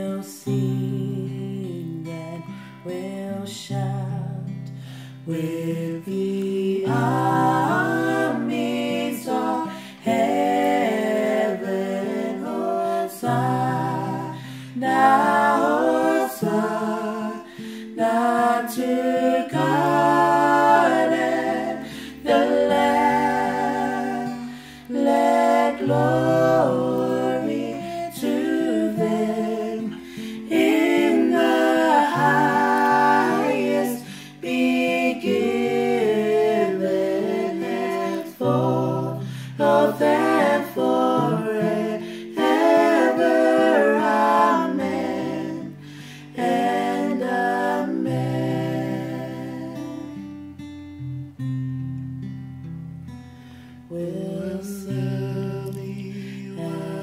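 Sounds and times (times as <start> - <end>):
strummed acoustic guitar: 0.0 - 6.2, 6.8 - 47.3, 47.9 - 57.0
people singing a hymn: 0.0 - 50.3, 53.9 - 57.0.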